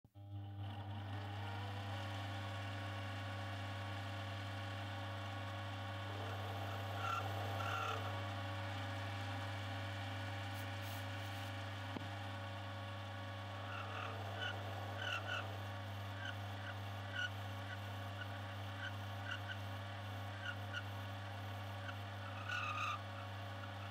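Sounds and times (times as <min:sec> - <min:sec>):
lathe motor humming with whine: 0:00.2 - 0:23.9.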